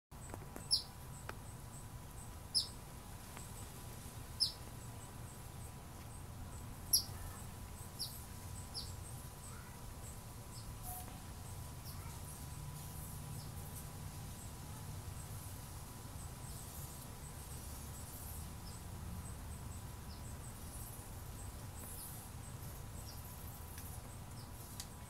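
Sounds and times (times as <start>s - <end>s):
bird chirping: 0.2s - 2.8s, 4.4s - 13.7s, 16.2s - 24.8s.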